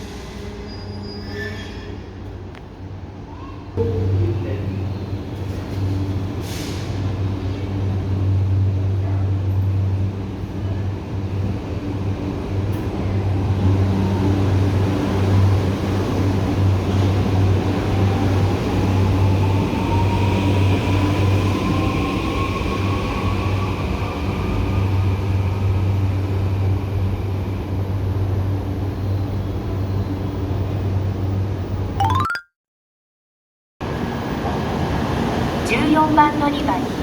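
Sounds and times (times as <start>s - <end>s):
train low hum: 2.0s - 31.9s, 33.8s - 37.0s.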